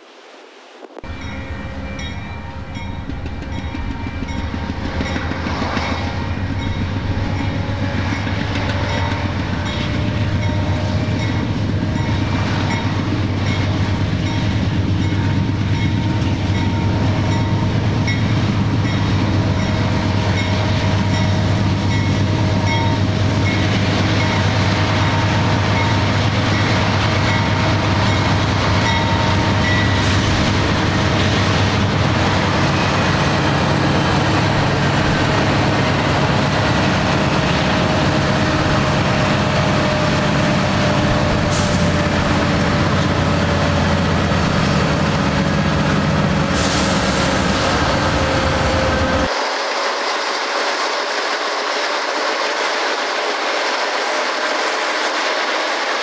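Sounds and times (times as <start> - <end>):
diesel locomotive rumble: 1.0 - 56.0.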